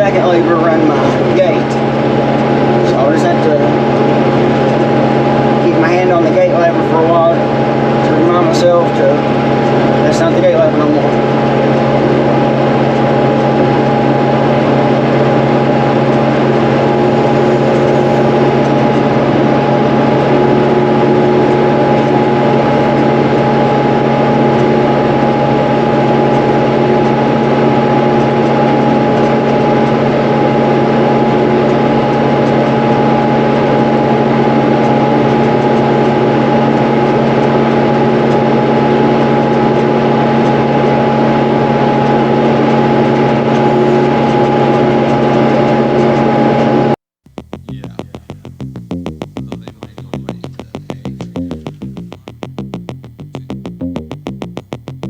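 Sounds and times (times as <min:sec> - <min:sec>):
thin steady whine: 0:00.0 - 0:55.0
tractor engine running: 0:00.0 - 0:55.0.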